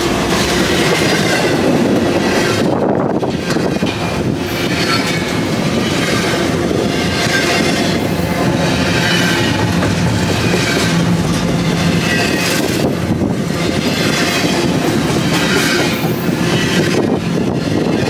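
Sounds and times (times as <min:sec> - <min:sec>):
rail car trucks clattering: 0:00.0 - 0:18.0
train wheels rumbling on rails: 0:00.0 - 0:18.0.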